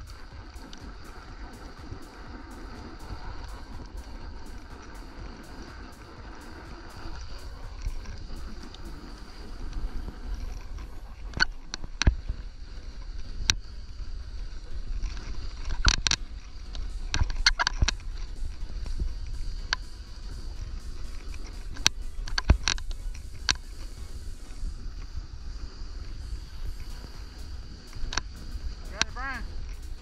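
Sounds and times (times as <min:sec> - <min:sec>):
snowboard carving over snow: 0:00.0 - 0:30.0
wind rumbling on microphone: 0:00.0 - 0:30.0.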